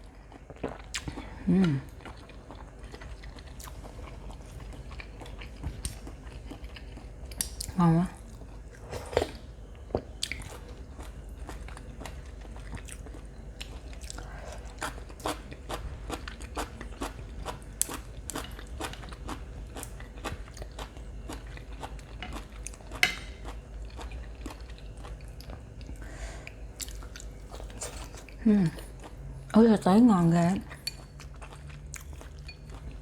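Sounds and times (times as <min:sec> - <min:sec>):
person chewing crunchy food: 0:00.0 - 0:29.5, 0:30.7 - 0:33.0.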